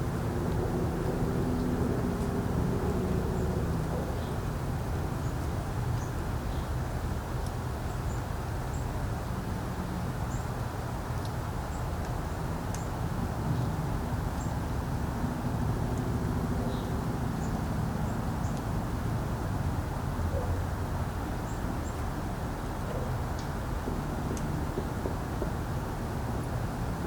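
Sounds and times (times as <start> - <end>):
distant traffic: 0.0 - 27.0
wind rumble: 0.0 - 27.0.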